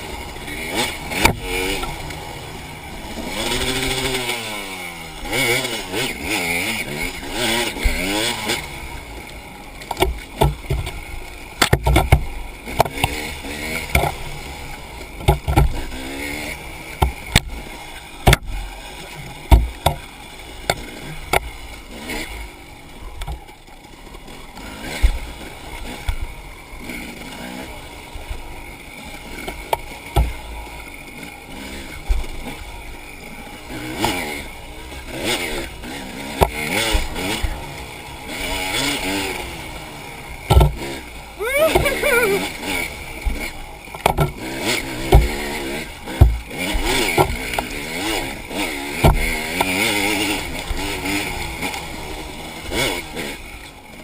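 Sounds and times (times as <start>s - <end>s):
dirt bike engine revving: 0.0s - 54.0s
knocks and clatters over rough ground: 0.0s - 54.0s.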